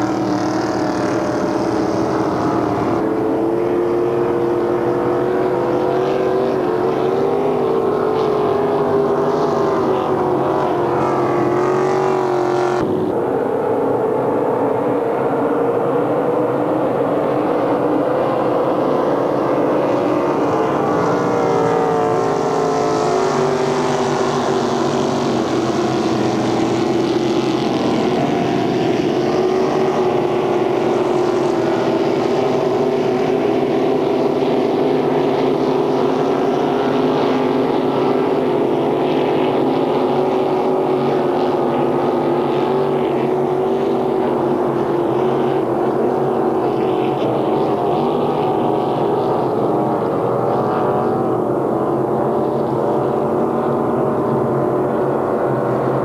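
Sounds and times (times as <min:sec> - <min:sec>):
racing boat engines droning: 0:00.0 - 0:56.0.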